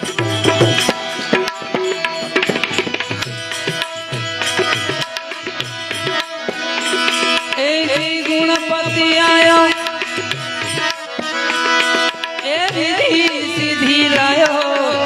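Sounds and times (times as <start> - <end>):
sustained melodic accompaniment: 0.0 - 15.0
tabla playing: 0.0 - 15.0.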